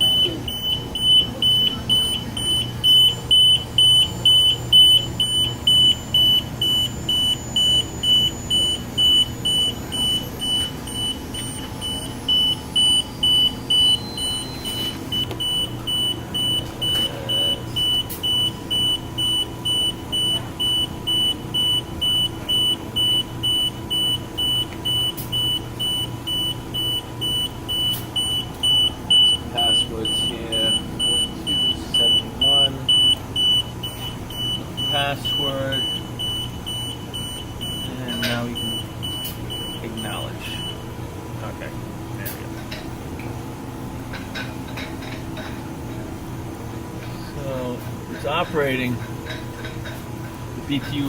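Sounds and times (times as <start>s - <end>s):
alarm buzzer beeping: 0.0s - 40.9s
low machine hum: 0.0s - 51.0s.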